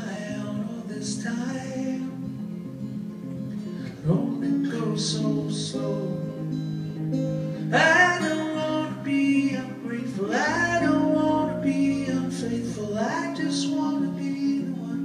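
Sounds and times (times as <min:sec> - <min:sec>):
man singing wordless notes: 0:00.0 - 0:02.5, 0:03.8 - 0:06.6, 0:07.6 - 0:15.0
strummed acoustic guitar: 0:00.0 - 0:15.0.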